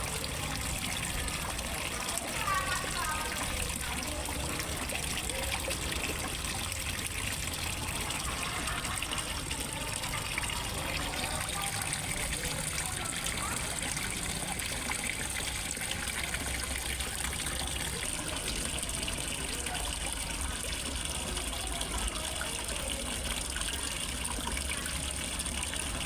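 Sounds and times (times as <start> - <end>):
water splashing into pond: 0.0 - 26.0.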